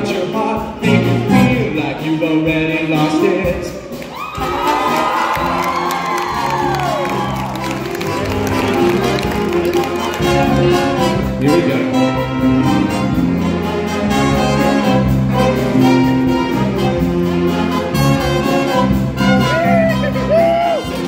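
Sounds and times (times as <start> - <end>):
jazz band playing: 0.0 - 21.0.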